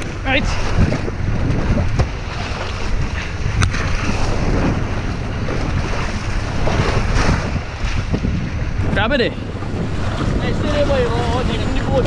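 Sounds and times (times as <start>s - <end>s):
sea washing against boat: 0.0s - 12.0s
wind buffeting microphone: 0.0s - 12.0s.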